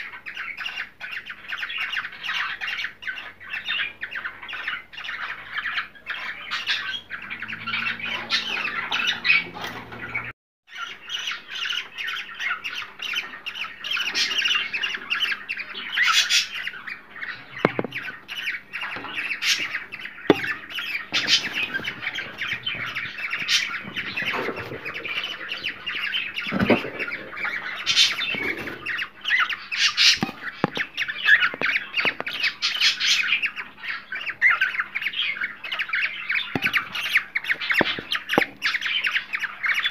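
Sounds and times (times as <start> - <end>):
cockatiels chattering and squawking: 0.0 - 39.9.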